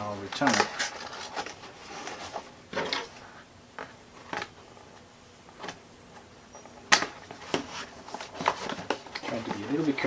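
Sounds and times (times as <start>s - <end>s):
soft rustling of cables: 0.0s - 10.0s.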